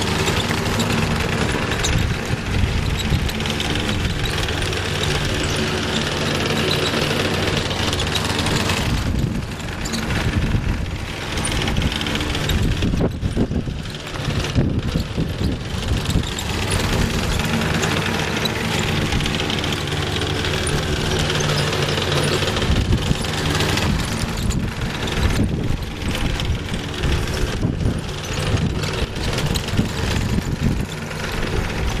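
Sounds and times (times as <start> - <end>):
lawn mower engine running: 0.0 - 32.0.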